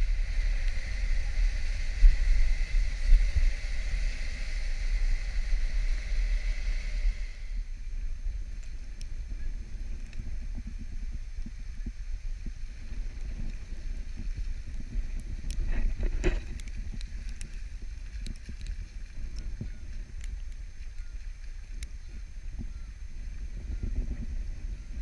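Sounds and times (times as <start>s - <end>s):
faint crackles: 0.0s - 25.0s
wind rumble on microphone: 0.0s - 25.0s.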